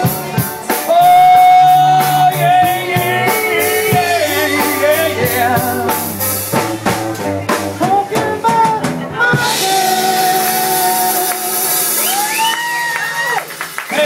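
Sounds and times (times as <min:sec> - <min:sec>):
man singing: 0:00.0 - 0:12.1
live band playing: 0:00.0 - 0:14.0.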